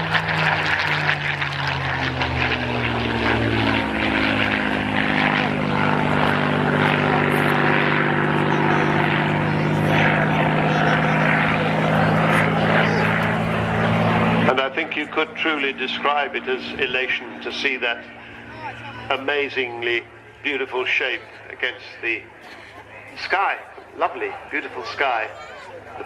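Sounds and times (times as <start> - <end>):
propeller aircraft engine droning: 0.0 - 26.0.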